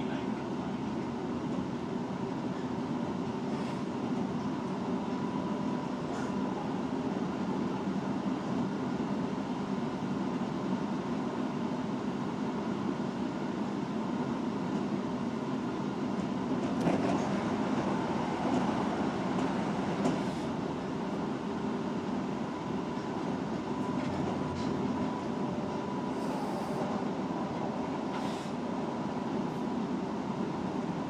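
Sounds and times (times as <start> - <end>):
train wheel and running noise: 0.0 - 31.0.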